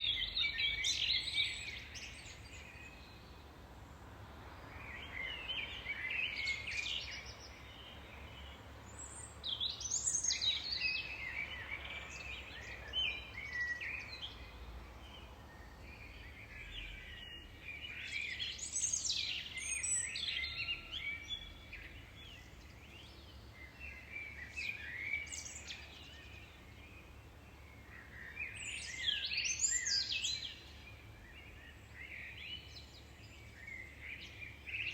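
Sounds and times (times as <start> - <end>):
songbirds chirping and trilling: 0.0 - 34.9.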